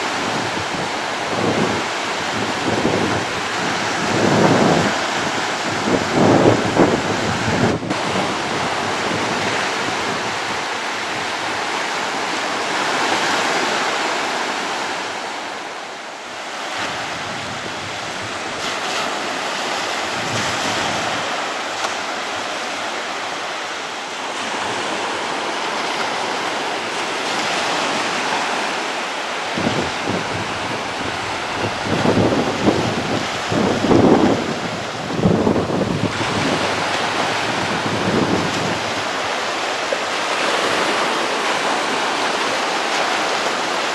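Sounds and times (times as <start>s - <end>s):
wind buffeting microphone: 0.0s - 15.0s, 16.7s - 22.6s, 29.5s - 43.9s
sea surf breaking: 0.0s - 43.9s.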